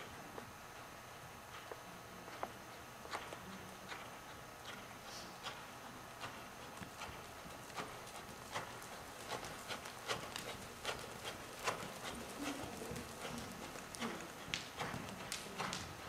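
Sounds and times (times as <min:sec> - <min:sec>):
horse hooves trotting on sand: 0:00.0 - 0:16.0.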